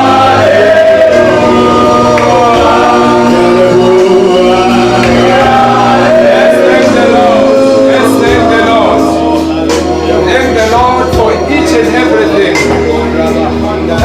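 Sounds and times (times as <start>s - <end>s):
group singing gospel song: 0.0s - 12.9s
bass tones: 0.0s - 14.0s.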